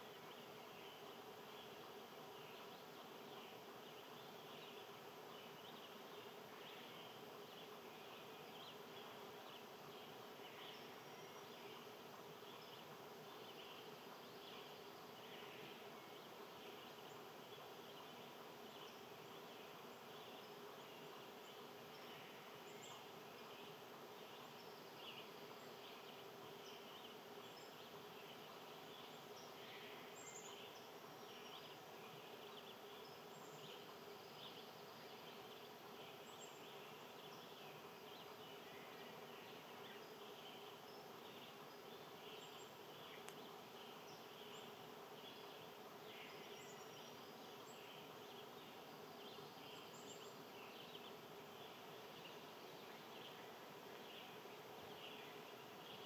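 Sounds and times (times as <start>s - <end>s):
insect buzz: 0.0s - 56.0s.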